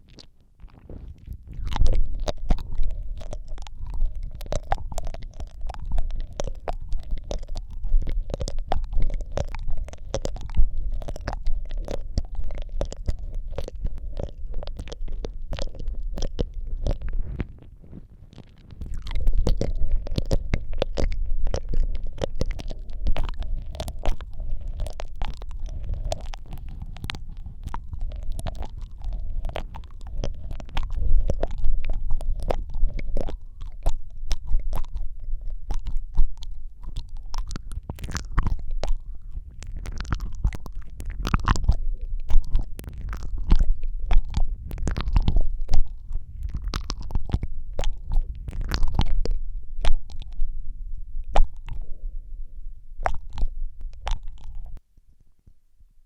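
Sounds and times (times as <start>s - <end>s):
low rumble: 0.0s - 54.8s
wet tongue and lip clicks: 0.0s - 54.8s.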